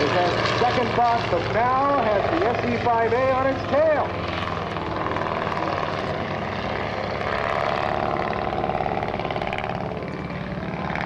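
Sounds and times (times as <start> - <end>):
propeller planes droning past: 0.0 - 11.0.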